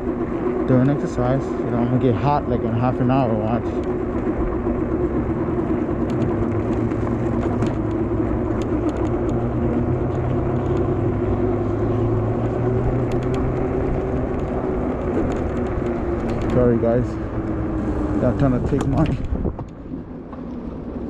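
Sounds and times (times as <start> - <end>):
steady low hum: 0.0 - 21.0
wind rushing over microphone: 3.9 - 21.0.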